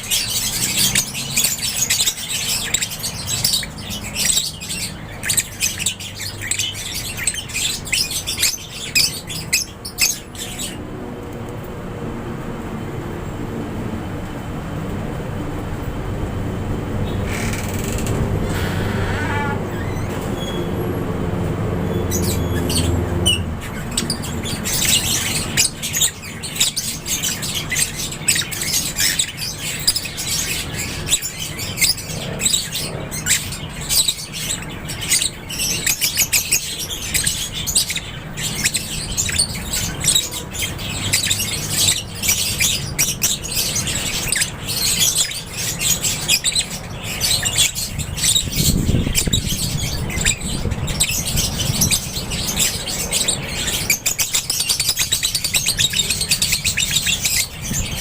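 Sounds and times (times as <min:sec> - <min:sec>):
birds chirping in chorus: 0:00.0 - 0:58.0.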